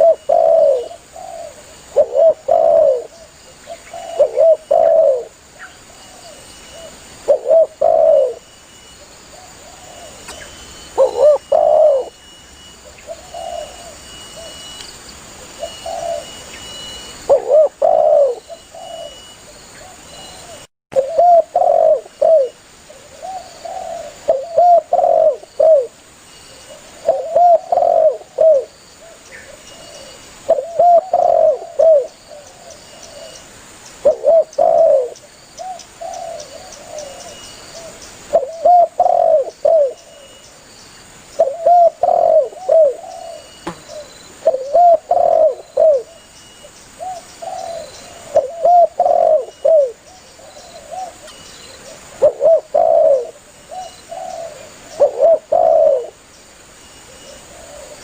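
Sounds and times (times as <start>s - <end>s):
dove cooing: 0.0s - 5.4s, 6.1s - 8.4s, 9.3s - 12.2s, 12.8s - 14.6s, 15.4s - 16.6s, 17.2s - 26.0s, 26.6s - 33.4s, 34.0s - 40.4s, 41.4s - 46.2s, 47.0s - 56.2s, 57.1s - 58.0s.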